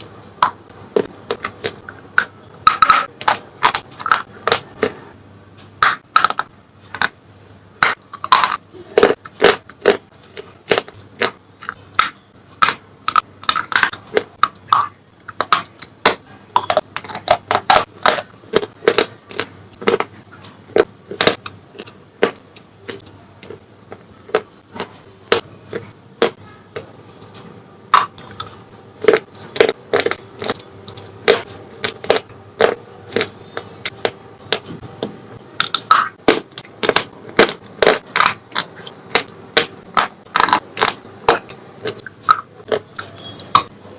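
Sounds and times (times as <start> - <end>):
person crunching with teeth: 0.0 - 5.1, 7.8 - 26.4, 27.2 - 43.7.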